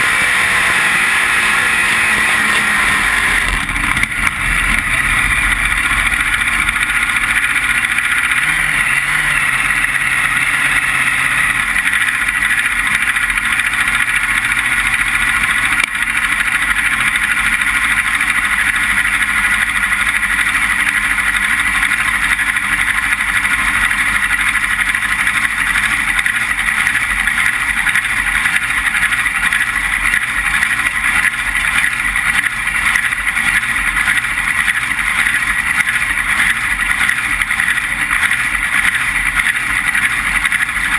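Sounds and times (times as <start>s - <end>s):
dragster engine running: 0.0s - 40.9s.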